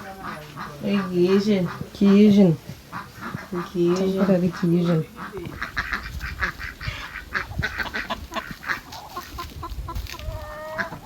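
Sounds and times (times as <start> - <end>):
poultry squawking and honking: 0.0 - 11.0.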